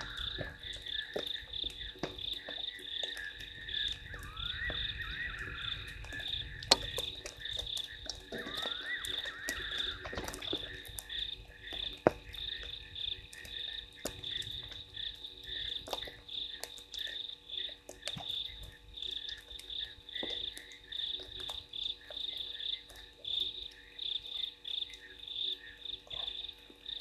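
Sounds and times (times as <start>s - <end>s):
sharp ticks: 0.0s - 23.9s
frogs calling: 0.0s - 27.0s.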